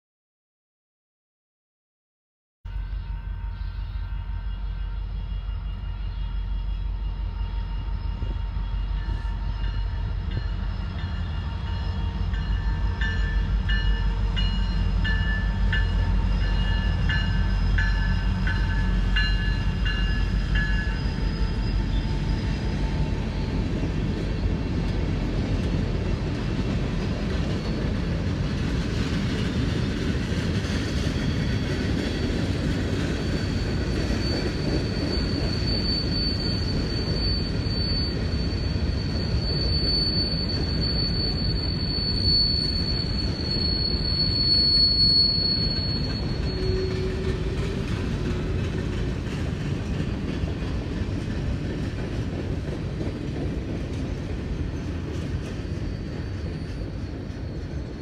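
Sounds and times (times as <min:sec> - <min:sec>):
freight train rumbling: 0:02.7 - 0:58.0.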